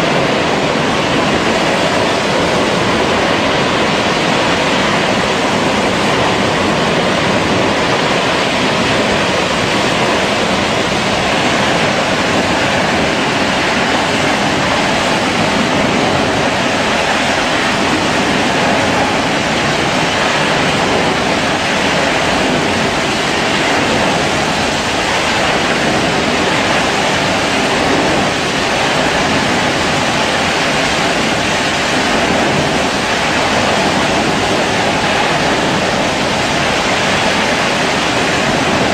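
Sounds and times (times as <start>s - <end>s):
gas jetting from well: 0.0s - 38.9s.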